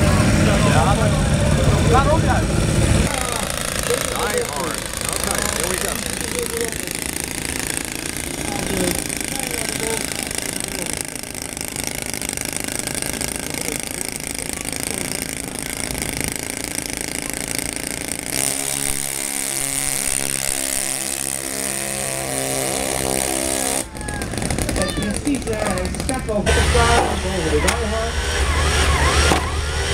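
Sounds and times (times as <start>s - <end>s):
small model engine running hard: 0.0s - 29.9s.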